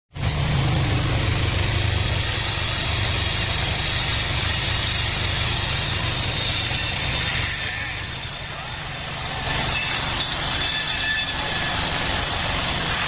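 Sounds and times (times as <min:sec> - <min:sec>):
sawmill machinery humming and whining: 0:00.2 - 0:13.0.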